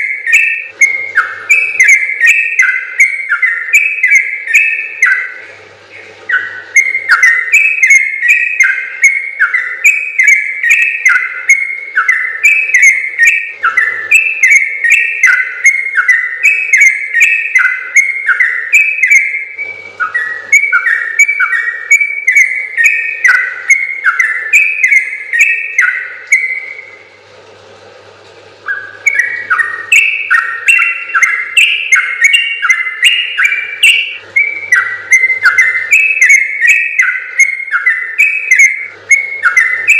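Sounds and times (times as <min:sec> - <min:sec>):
bulbul singing fluting notes: 0:00.0 - 0:27.1, 0:28.6 - 0:39.9.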